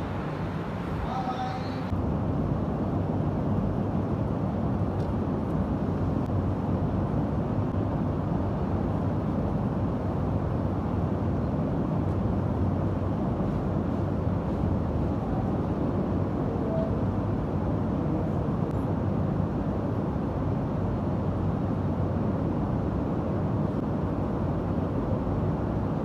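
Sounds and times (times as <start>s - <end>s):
low rumble with faint hum: 0.0s - 26.0s.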